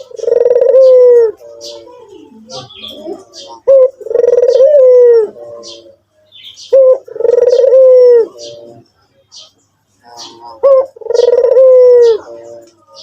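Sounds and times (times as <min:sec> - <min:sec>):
dove cooing: 0:00.0 - 0:08.9, 0:10.0 - 0:13.0.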